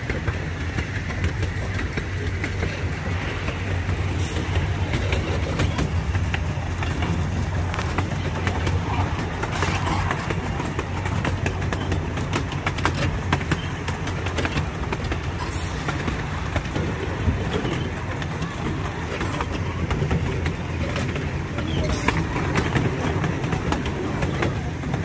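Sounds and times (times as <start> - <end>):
train cars rolling rumble: 0.0 - 25.0
wheels clicking on rails: 0.0 - 25.0.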